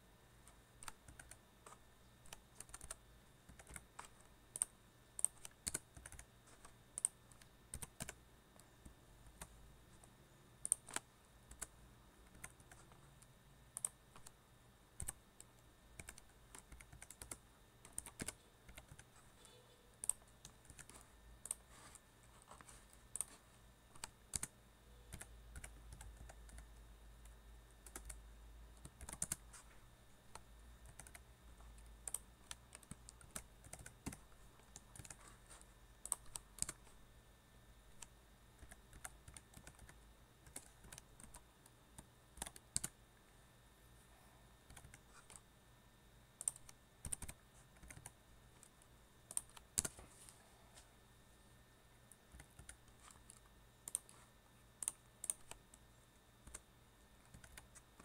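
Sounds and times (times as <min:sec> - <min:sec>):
keyboard typing: 0:00.4 - 0:28.2, 0:28.8 - 0:37.0, 0:37.9 - 0:43.0, 0:44.7 - 0:45.4, 0:46.4 - 0:50.0, 0:52.1 - 0:55.8, 0:56.4 - 0:56.6, 0:57.2 - 0:58.0.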